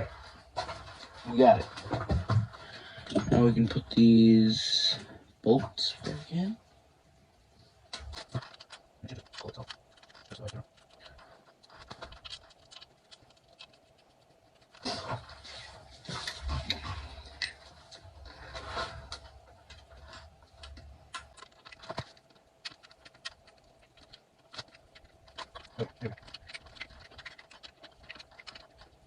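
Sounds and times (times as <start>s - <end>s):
rustling and handling noise: 0.0s - 29.0s.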